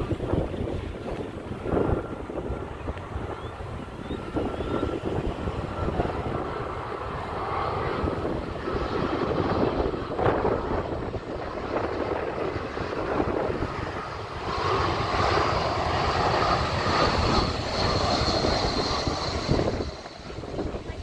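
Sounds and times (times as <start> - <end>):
high engine whine: 0.0 - 21.0
jet engine rumbling: 0.0 - 21.0.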